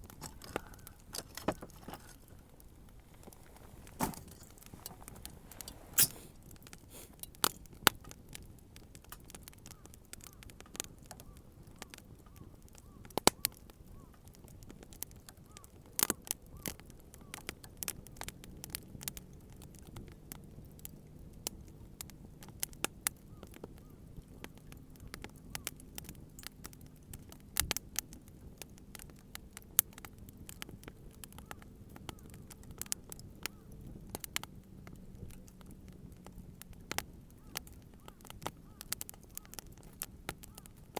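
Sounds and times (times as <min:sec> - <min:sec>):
bonfire crackling and popping: 0:00.0 - 0:40.9.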